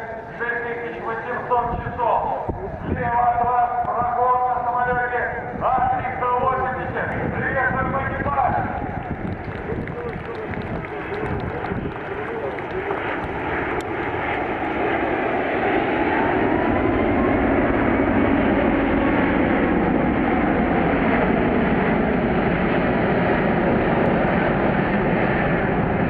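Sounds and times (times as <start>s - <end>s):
jet engines on low pass: 0.0s - 26.0s.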